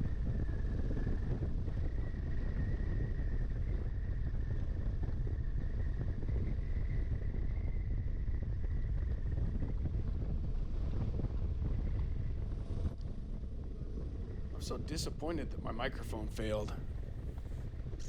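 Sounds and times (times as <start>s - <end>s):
wind rush on microphone: 0.0s - 18.0s
thin steady whine: 0.1s - 18.0s.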